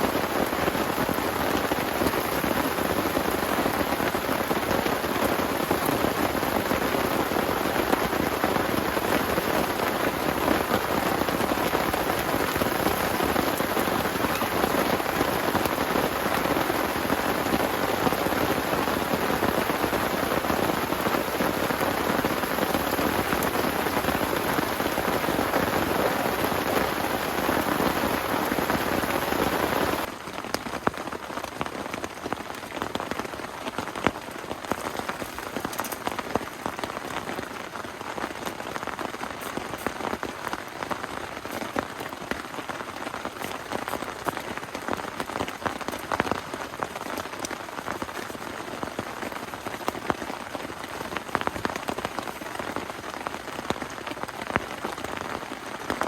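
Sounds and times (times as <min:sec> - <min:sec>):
raindrops ticking on a surface: 0:00.0 - 0:56.0
steady rain: 0:00.0 - 0:56.0.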